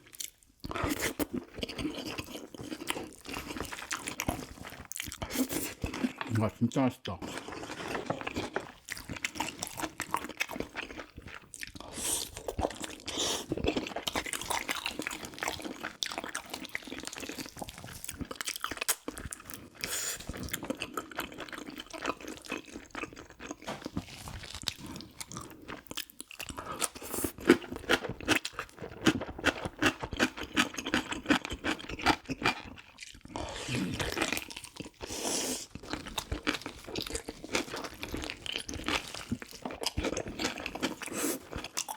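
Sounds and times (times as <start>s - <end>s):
chewing crunches: 0.0s - 41.9s.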